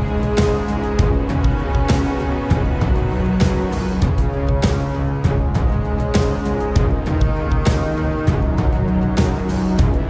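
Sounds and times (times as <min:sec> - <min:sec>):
music with chords and beat: 0:00.0 - 0:10.0.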